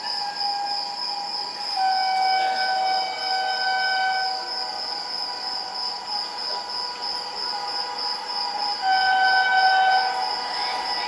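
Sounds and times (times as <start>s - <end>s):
distant train horn: 0.0s - 11.0s
steady high-pitched drone: 0.0s - 11.0s.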